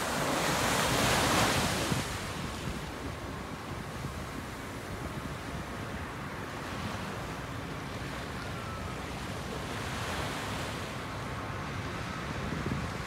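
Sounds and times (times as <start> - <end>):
small waves breaking on shore: 0.0 - 13.0.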